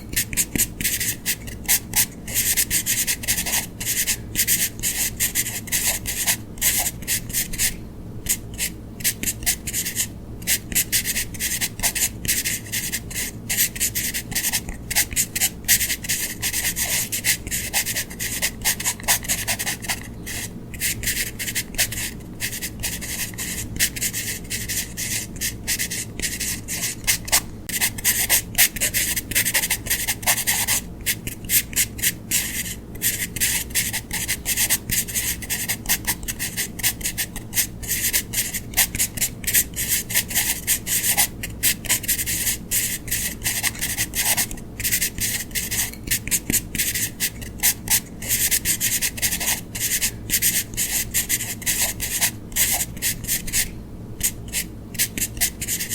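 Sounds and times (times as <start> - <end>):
pen scratching on paper: 0.0 - 55.9.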